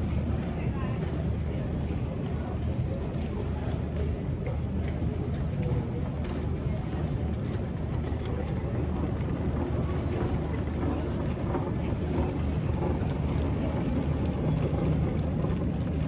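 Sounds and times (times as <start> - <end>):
low rumble of terminal noise: 0.0 - 16.0.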